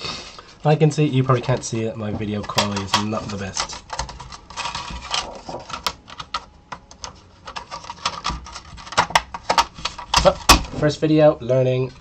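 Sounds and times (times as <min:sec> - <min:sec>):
monitor chassis clicking and rattling: 0:01.3 - 0:11.0.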